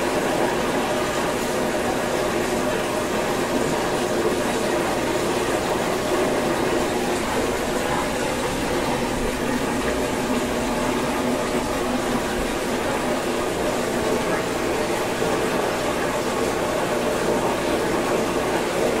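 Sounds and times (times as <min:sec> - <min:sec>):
pump hum: 0:00.0 - 0:19.0
rushing water: 0:00.0 - 0:19.0.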